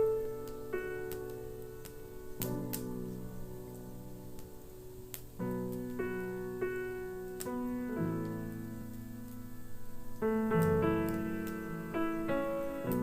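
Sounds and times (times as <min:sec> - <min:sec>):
fireplace crackles: 0:00.0 - 0:13.0
solo piano ballad: 0:00.0 - 0:13.0.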